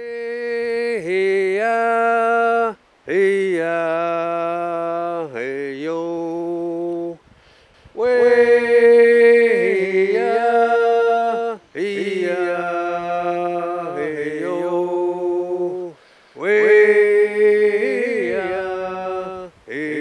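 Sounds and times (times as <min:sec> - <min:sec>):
man singing unaccompanied chant: 0:00.0 - 0:07.2, 0:08.0 - 0:20.0.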